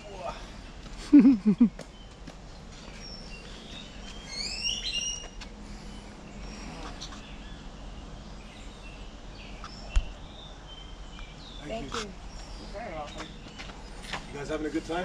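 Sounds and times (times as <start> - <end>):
faint steady background noise: 0.0 - 15.0
birds whistling and chirping: 1.5 - 15.0.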